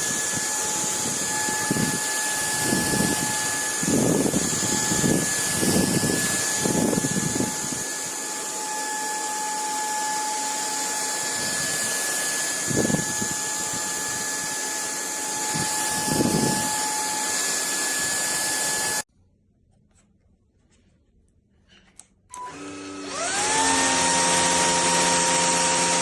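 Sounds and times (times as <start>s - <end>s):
stick vacuum running: 0.0s - 19.0s, 22.3s - 26.0s.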